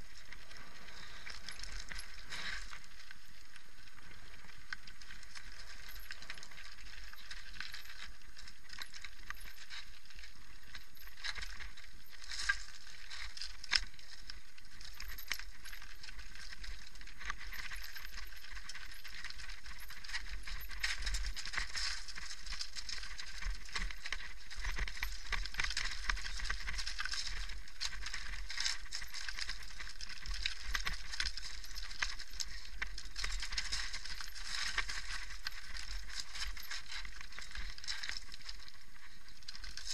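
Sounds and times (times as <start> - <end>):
mountain bike rattling on gravel: 0.0 - 39.9.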